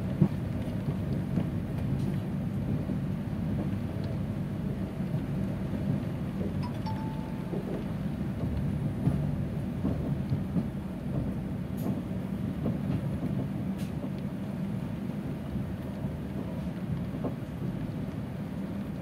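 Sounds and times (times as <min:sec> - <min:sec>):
train coach rumble from inside: 0:00.0 - 0:19.0.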